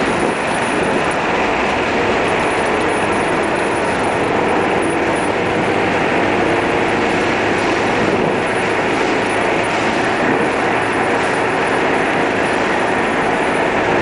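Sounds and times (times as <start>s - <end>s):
car interior road drone: 0.0s - 14.0s.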